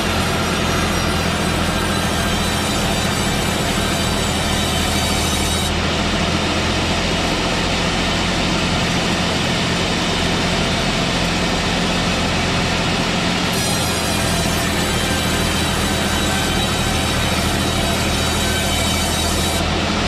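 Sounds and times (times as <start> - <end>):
sawmill machine engine drone: 0.0 - 20.0.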